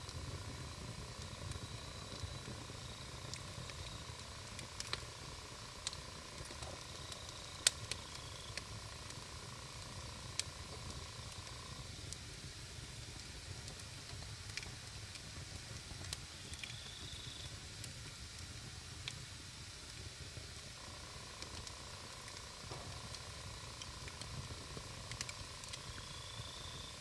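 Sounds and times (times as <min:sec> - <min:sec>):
wood fire hissing and crackling: 0:00.0 - 0:27.0.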